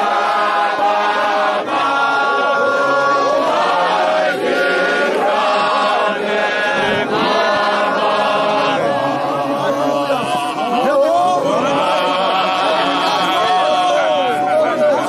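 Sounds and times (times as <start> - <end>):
men's choir singing a hymn: 0.0 - 15.0.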